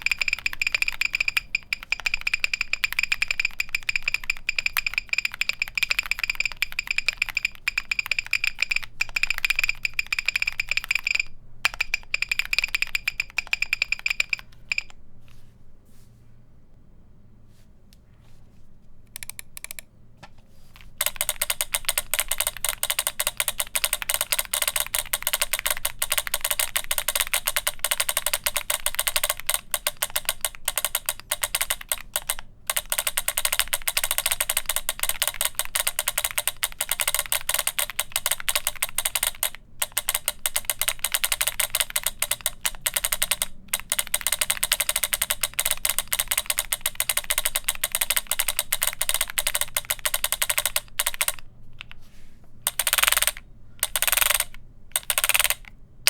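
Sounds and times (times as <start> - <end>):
mechanical keyboard clacking: 0.0 - 15.0, 19.1 - 19.9, 20.8 - 52.0, 52.6 - 55.8.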